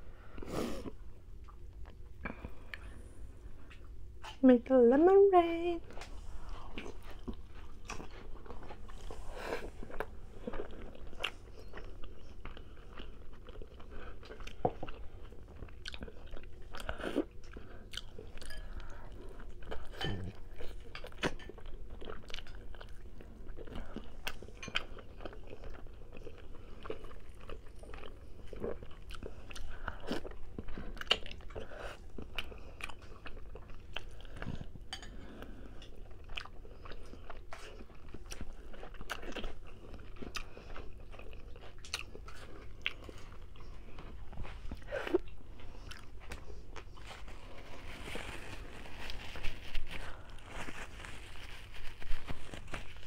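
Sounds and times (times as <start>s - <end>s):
person chewing food: 5.9s - 53.0s.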